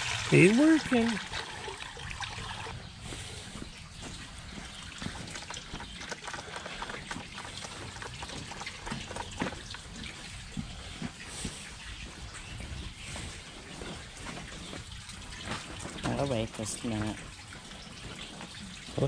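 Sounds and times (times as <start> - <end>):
water trickling into pond: 0.0 - 19.0.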